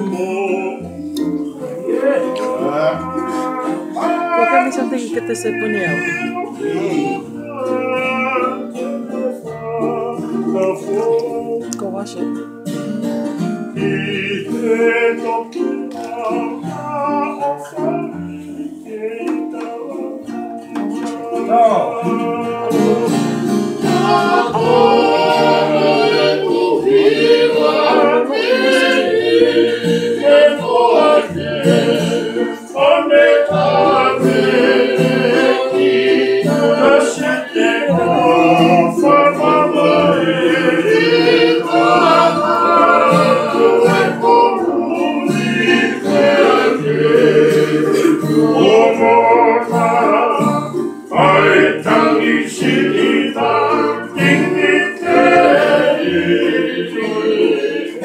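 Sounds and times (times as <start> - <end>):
men singing together: 0.0 - 11.7, 13.6 - 58.0
strummed acoustic guitars: 0.0 - 58.0.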